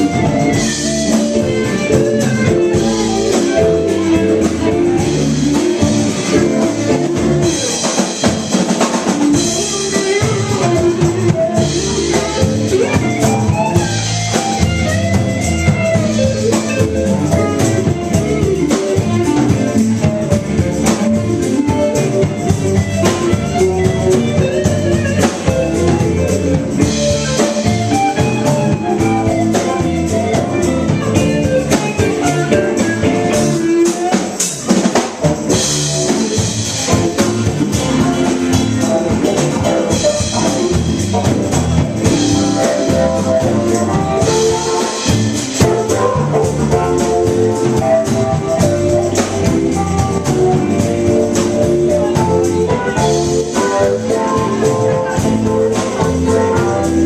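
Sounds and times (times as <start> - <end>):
drum kit beat: 0.0 - 57.0
guitar: 0.0 - 57.0
live band playing: 0.0 - 57.0.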